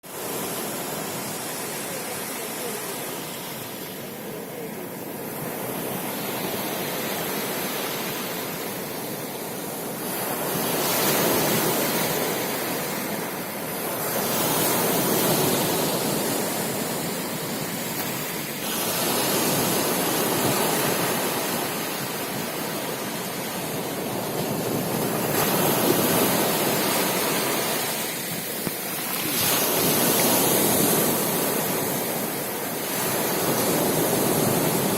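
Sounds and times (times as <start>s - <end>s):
waves breaking: 0.0s - 34.9s.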